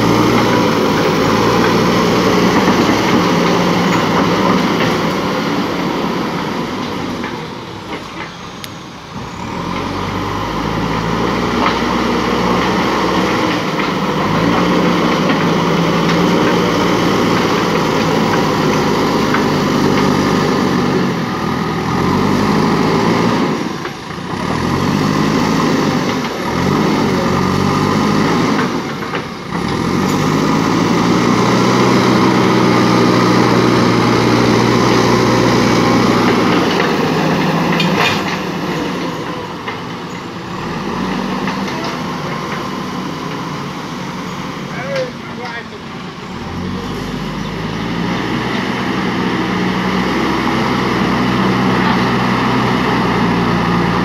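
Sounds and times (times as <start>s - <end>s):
diesel engine revving under load: 0.0s - 54.0s.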